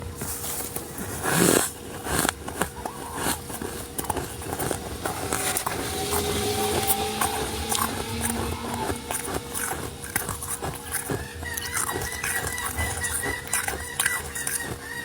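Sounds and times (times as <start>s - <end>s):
frost being crunched and chewed: 0.2s - 15.0s
faint steady tones: 1.7s - 15.0s.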